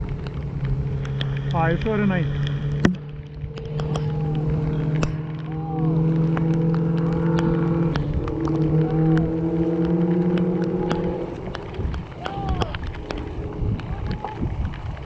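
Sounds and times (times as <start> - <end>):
steady motor hum: 0.0 - 15.0
sharp clicks and knocks: 2.4 - 15.0.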